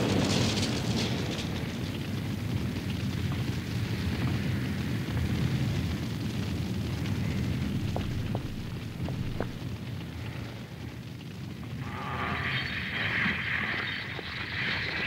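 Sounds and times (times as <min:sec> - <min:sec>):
fire rumbling: 0:00.0 - 0:15.0.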